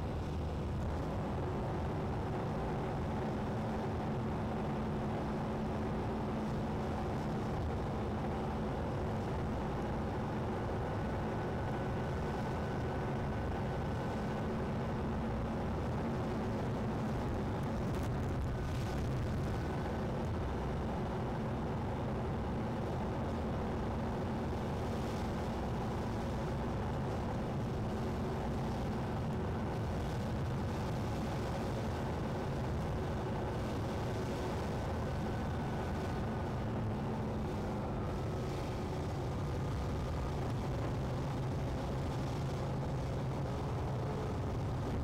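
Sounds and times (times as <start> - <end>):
car engine and tyre noise: 0.0 - 45.0.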